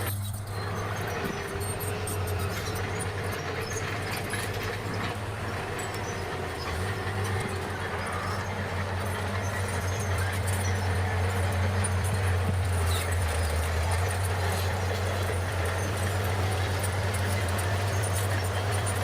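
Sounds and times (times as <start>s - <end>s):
bulldozer diesel engine droning: 0.0s - 19.0s
metallic clanks of crawler tracks: 0.0s - 19.0s.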